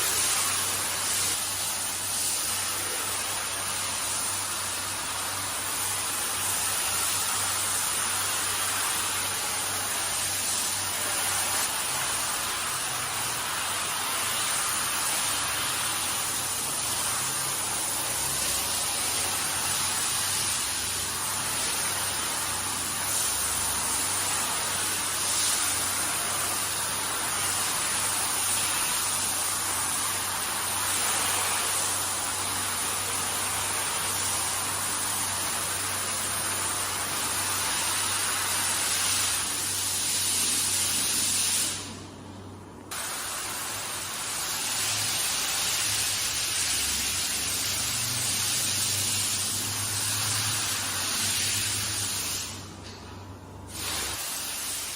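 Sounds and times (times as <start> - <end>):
pressure sprayer hissing: 0.0 - 42.0, 42.9 - 52.7, 53.7 - 54.9.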